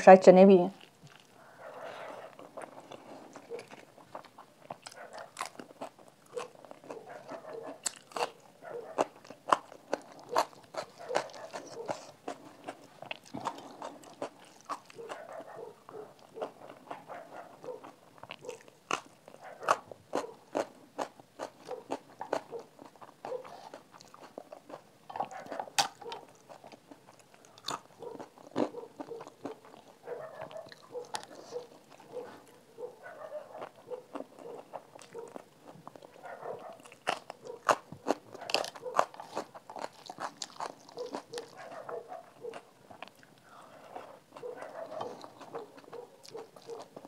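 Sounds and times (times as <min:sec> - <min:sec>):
chewing with mouth clicks: 0:00.8 - 0:47.0.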